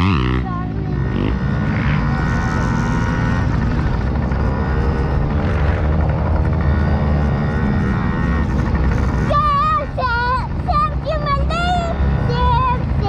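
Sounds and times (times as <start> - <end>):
small dirt bike engine running: 0.0 - 13.0.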